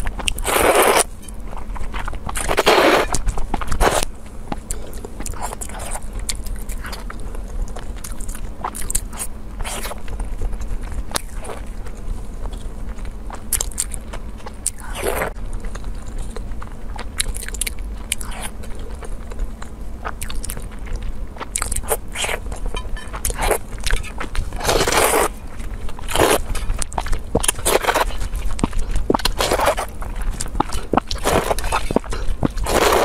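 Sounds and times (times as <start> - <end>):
crunchy bites and chewing: 0.0 - 33.0.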